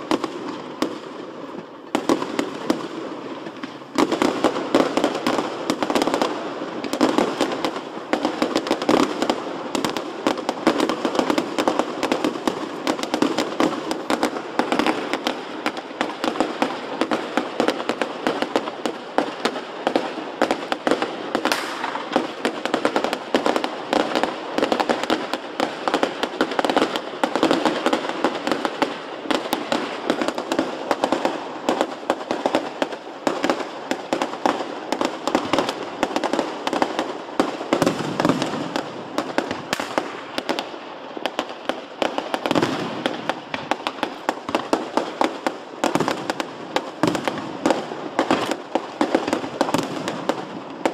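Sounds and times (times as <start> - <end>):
fireworks popping and banging: 0.0 - 50.9.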